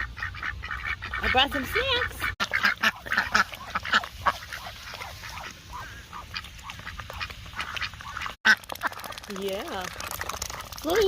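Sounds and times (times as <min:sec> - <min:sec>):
ducks quacking: 0:00.0 - 0:09.2.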